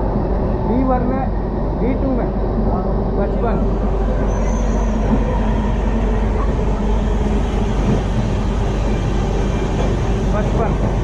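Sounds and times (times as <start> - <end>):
train coach rumbling: 0.0 - 11.0.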